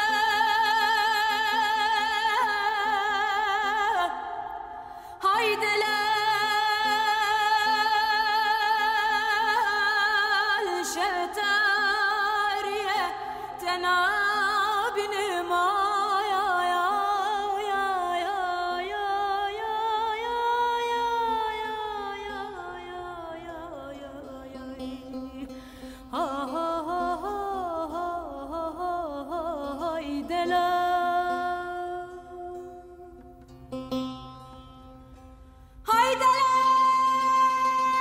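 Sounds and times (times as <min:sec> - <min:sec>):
woman singing slow lament: 0:00.0 - 0:24.7, 0:26.1 - 0:33.1, 0:35.9 - 0:38.0.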